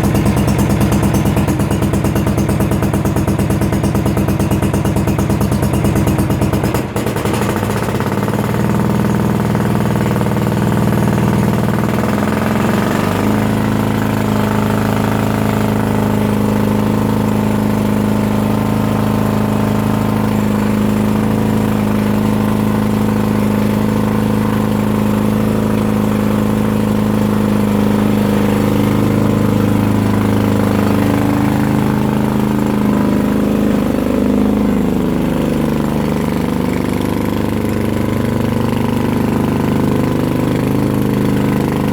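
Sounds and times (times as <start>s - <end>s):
lawn tractor engine running: 0.0s - 41.9s.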